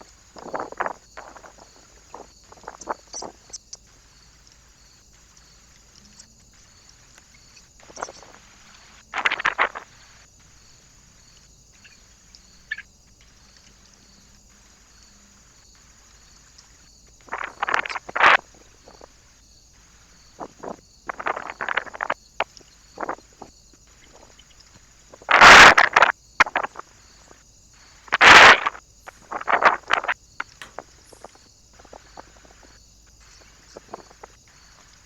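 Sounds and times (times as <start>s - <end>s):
microphone hiss: 0.0s - 35.0s.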